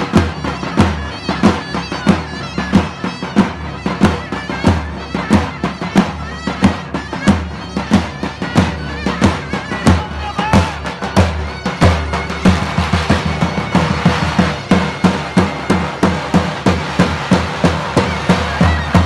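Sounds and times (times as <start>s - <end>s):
double-reed pipe melody: 0.0s - 19.0s.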